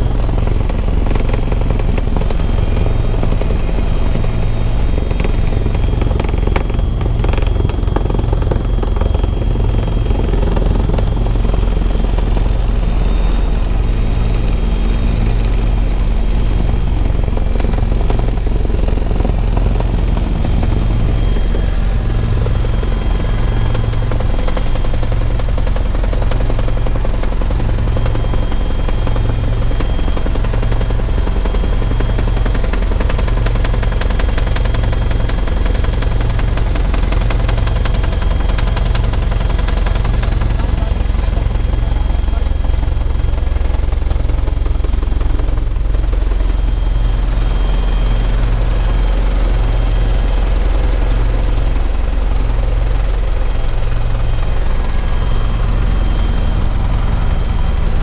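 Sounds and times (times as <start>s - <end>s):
helicopter engine and rotor drone: 0.0s - 58.0s
high turbine whine: 0.0s - 58.0s.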